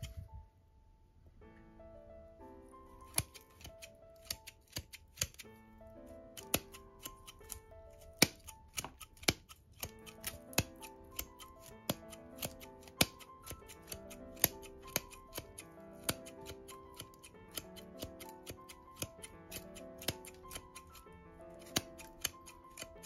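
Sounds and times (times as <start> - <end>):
scissors snipping roots: 0.0 - 0.2, 3.0 - 5.5, 6.4 - 23.0
background music with held notes: 1.4 - 23.0.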